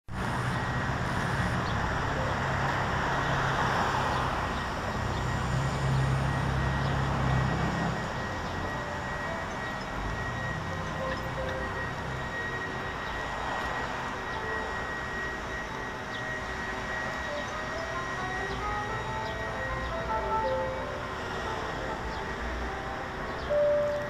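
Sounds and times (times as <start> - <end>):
low engine hum: 0.1 - 24.0
vehicles passing on street: 0.1 - 24.0.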